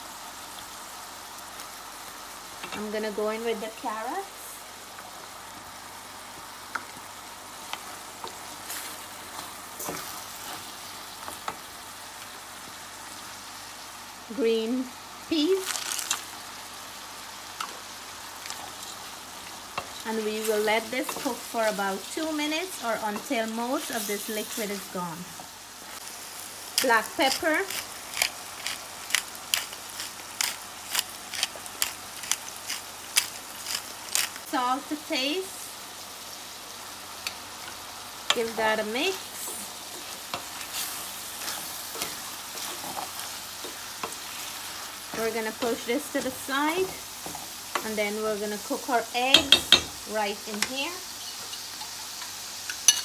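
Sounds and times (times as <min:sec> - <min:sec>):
food sizzling in oil in a pan: 0:00.0 - 0:53.0.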